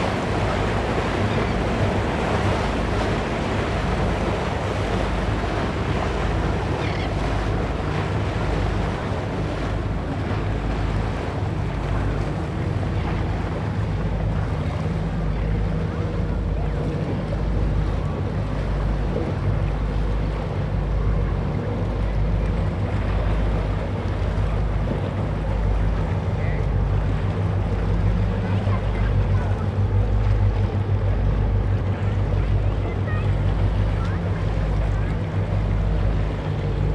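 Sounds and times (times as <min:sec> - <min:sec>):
boat engines humming: 0:00.0 - 0:36.9
surf washing: 0:00.0 - 0:36.9.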